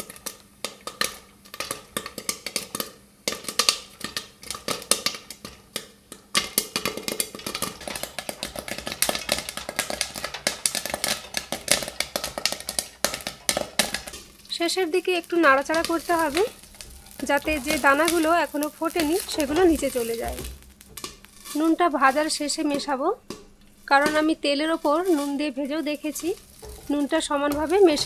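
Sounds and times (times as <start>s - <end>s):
popcorn popping in oil: 0.0s - 28.0s.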